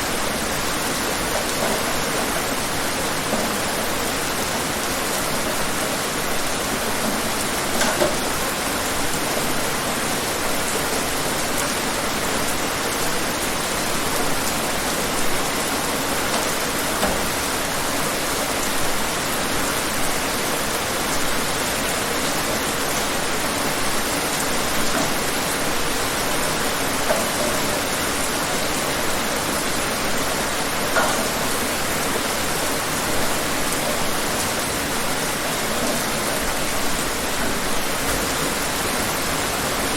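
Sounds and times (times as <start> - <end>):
raindrops spattering on a surface: 0.0 - 39.9
steady rain hiss: 0.0 - 39.9.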